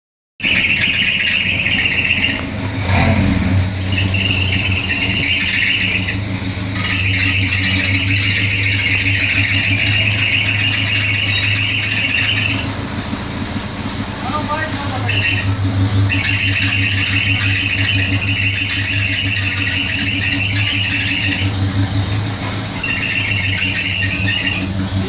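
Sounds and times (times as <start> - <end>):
car engine running: 0.4 - 25.0
drive belt squealing: 0.4 - 25.0.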